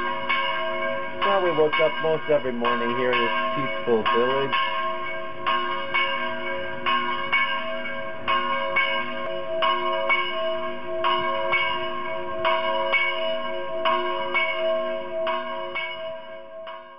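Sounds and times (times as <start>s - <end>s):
church bells ringing: 0.0s - 16.9s
lingering low bell tones: 0.0s - 16.9s.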